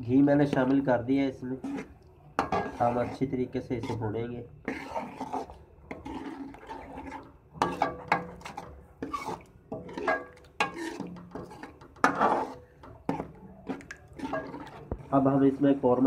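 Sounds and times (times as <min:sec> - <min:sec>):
metal spoon scraping a metal pot: 0:01.4 - 0:16.0.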